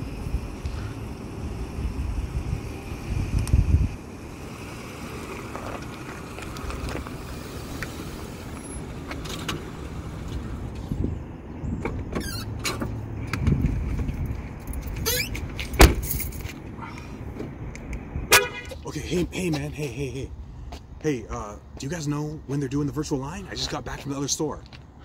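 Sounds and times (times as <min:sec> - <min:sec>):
passing cars rumble: 0:00.0 - 0:25.0.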